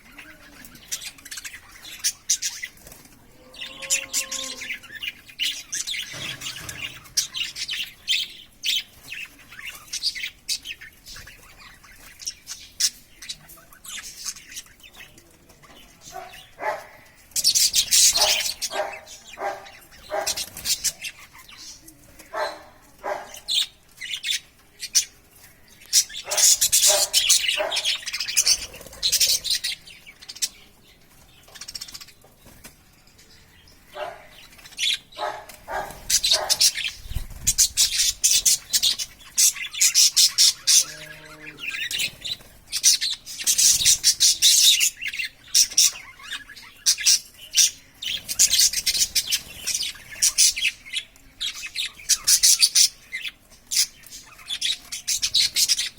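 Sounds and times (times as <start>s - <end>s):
budgerigars chirping and chattering: 0.0s - 55.9s.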